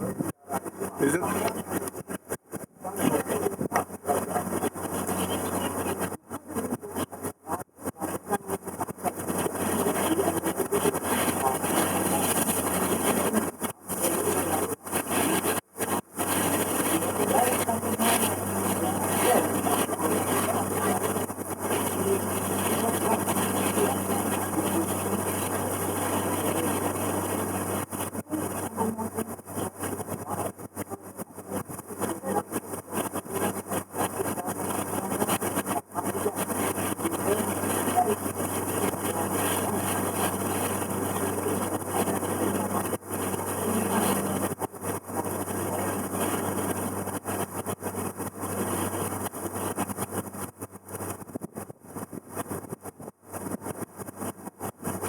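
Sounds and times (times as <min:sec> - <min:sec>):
boat engine humming: 0:00.0 - 0:49.7
constant rushing noise: 0:00.0 - 0:55.0.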